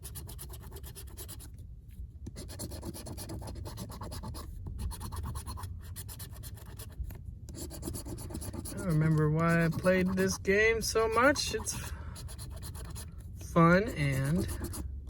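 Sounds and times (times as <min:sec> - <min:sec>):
scratching lottery ticket: 0:00.0 - 0:01.5, 0:02.3 - 0:14.9.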